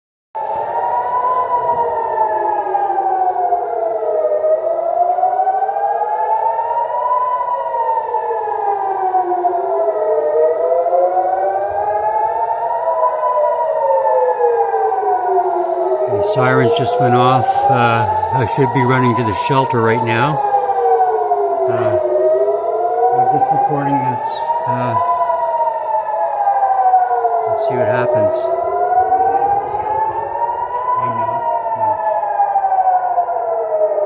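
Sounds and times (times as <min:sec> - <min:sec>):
air raid sirens wailing: 0:00.4 - 0:34.0.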